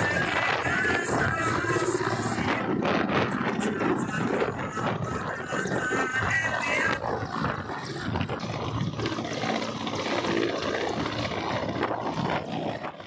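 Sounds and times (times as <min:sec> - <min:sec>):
helicopter rotor and turbine roar: 0:00.0 - 0:13.0
wind buffeting microphone: 0:00.0 - 0:13.0.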